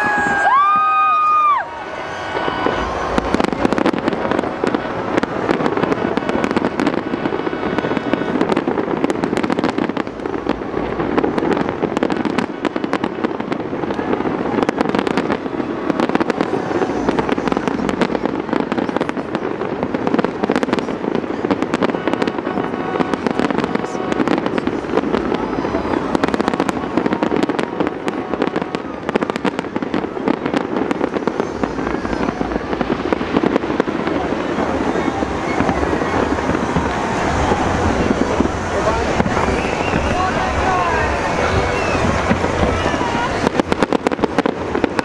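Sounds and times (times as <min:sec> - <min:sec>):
continuous fireworks rumble: 0:00.0 - 0:45.0
fireworks bangs and crackles: 0:00.0 - 0:45.0.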